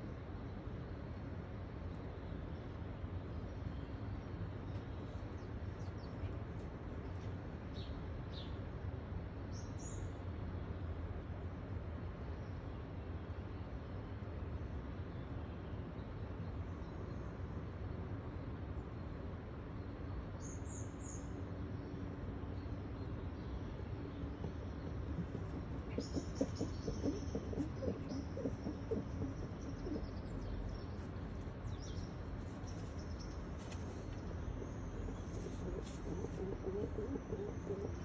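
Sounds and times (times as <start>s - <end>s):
low background rumble: 0.0s - 38.0s.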